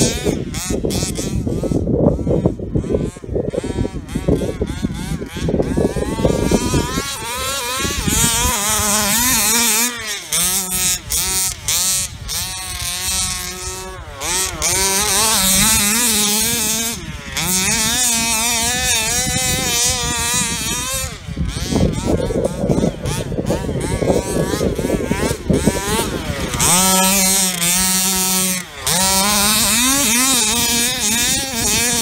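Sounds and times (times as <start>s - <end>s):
small two-stroke engine revving: 0.0s - 32.0s.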